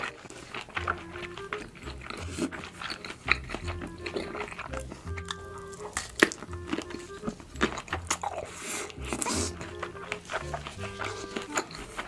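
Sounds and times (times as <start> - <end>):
background music with held notes: 0.0 - 12.0
bite into sausage: 0.0 - 12.0
wet mouth clicks and smacks: 0.0 - 12.0.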